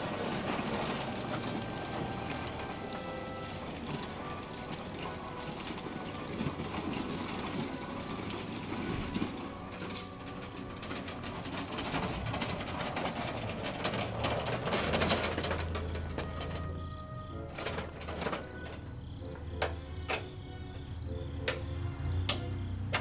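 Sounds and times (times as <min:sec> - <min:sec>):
gravel crackling under tires: 0:00.0 - 0:23.0.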